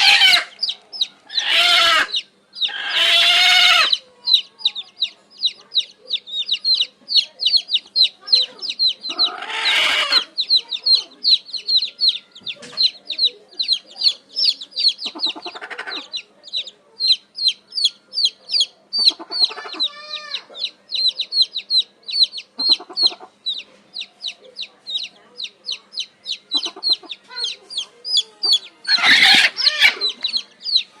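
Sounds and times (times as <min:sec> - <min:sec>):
chicks peeping: 0:00.0 - 0:31.0
hen clucking: 0:00.0 - 0:31.0.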